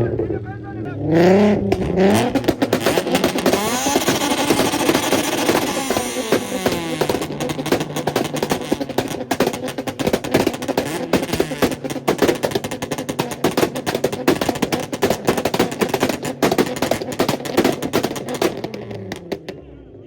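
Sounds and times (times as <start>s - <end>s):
exhaust pops and bangs: 0.0s - 19.7s
car engine on launch limiter: 0.0s - 20.0s.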